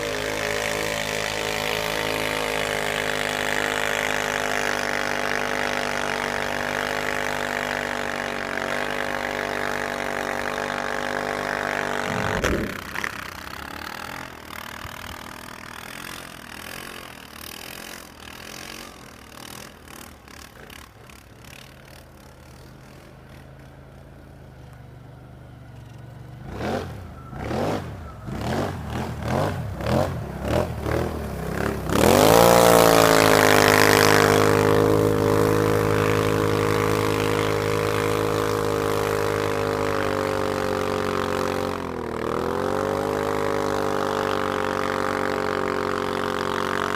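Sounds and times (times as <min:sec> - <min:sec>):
atv engine revving and idling: 0:00.0 - 0:46.9.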